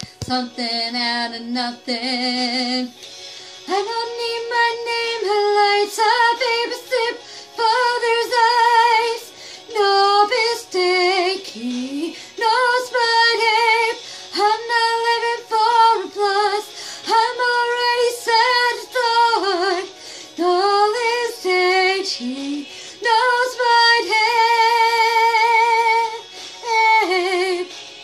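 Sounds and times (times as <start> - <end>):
woman singing: 0.0 - 27.8.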